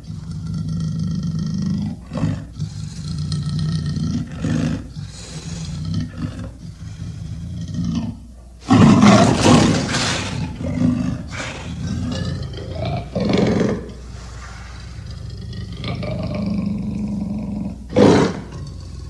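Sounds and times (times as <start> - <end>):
animal growling: 0.0 - 19.0
animal roaring: 0.0 - 19.0.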